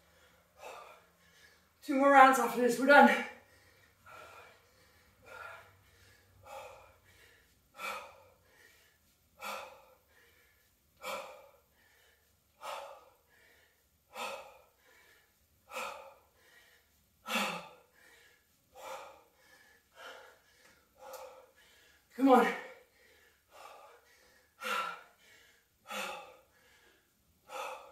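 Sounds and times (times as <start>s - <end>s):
woman breathing hard: 0.0s - 1.8s, 3.2s - 27.9s.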